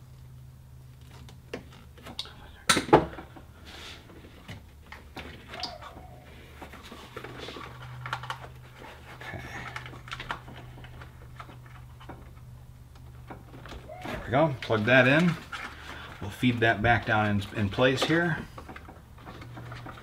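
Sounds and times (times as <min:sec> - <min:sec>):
clicks and rustles of wires: 0:00.0 - 0:20.0
steady low hum: 0:00.0 - 0:20.0.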